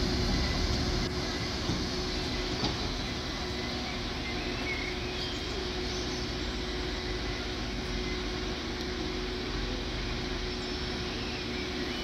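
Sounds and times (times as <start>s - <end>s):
diesel train engine: 0.0s - 12.0s
idling road vehicles rumble: 0.0s - 12.0s.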